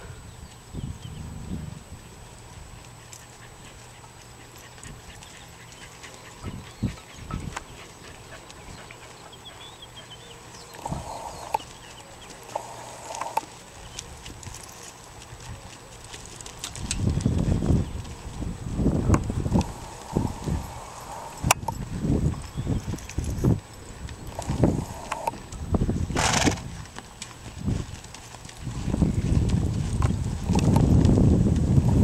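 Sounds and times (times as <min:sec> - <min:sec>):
hoofbeats on dirt: 0:02.4 - 0:32.0.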